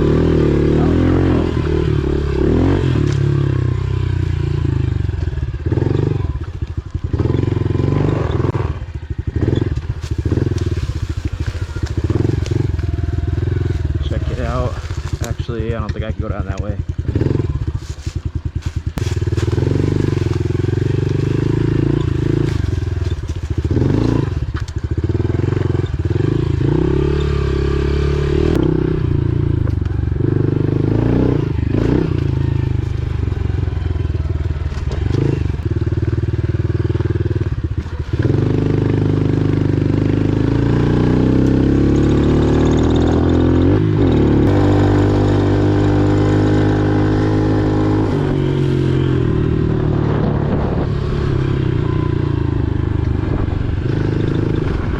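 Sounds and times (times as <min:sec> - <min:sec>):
pit bike engine revving: 0:00.0 - 0:54.9.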